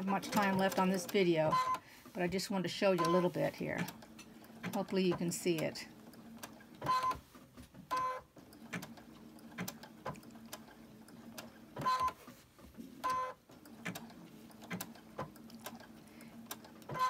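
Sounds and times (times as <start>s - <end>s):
sewing machine motor hum: 3.0s - 17.0s.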